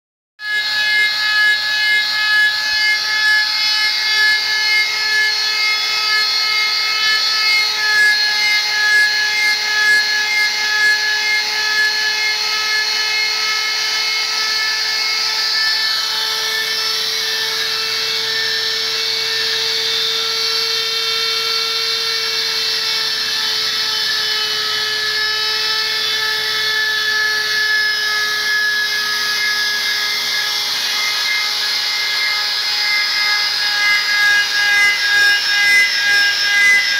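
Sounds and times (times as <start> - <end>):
die grinder high whine: 0.4 - 36.9
router bit cutting wood: 0.4 - 36.9.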